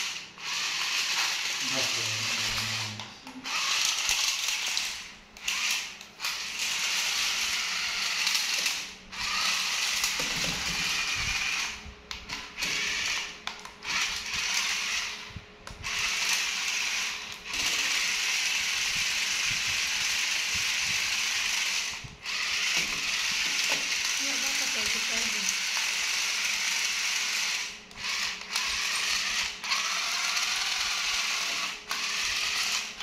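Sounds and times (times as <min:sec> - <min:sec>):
toy car motors whirring: 0:00.0 - 0:33.0.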